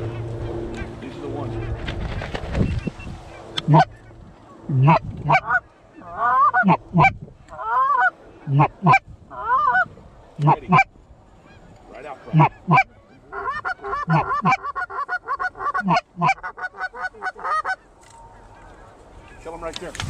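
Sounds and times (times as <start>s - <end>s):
goose clucking: 2.8s - 19.6s
goose honking: 3.3s - 19.6s.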